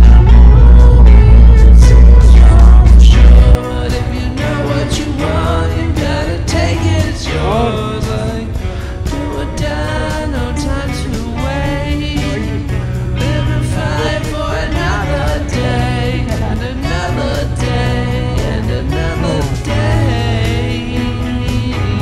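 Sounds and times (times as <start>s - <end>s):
song with singing over drum beat: 0.0s - 22.0s.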